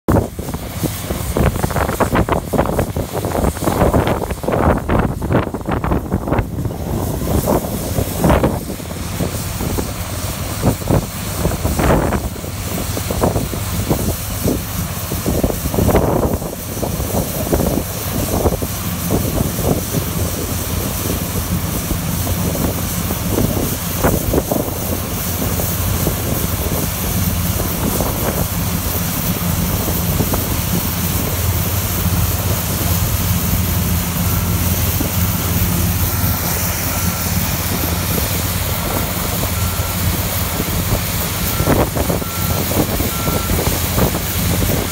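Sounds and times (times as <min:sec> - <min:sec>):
combine harvester running: 0:00.0 - 0:44.9.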